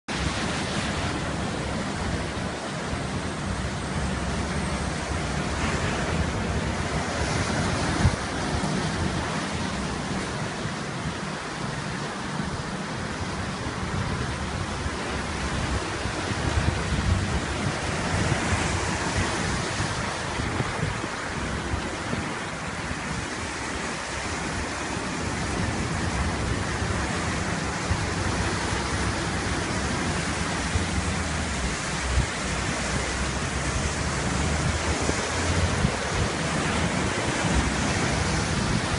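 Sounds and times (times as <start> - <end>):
heavy rain: 0.0 - 38.9
surf crashing over sea wall: 0.1 - 38.9
wind buffeting microphone: 0.1 - 38.9.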